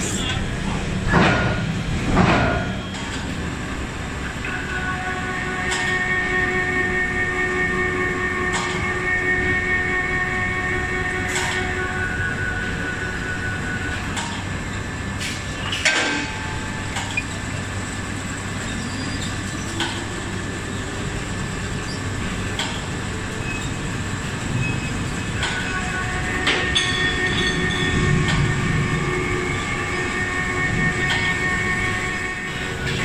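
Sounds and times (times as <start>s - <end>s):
machinery humming: 0.0s - 33.0s
whining machinery tones: 1.6s - 33.0s.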